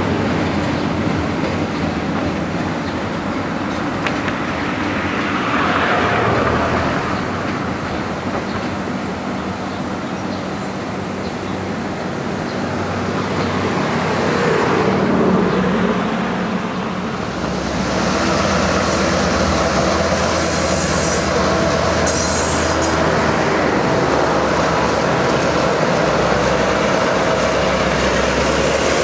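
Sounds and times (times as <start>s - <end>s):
diesel locomotives droning: 0.0s - 29.0s
train rumbling over trestle: 0.0s - 29.0s.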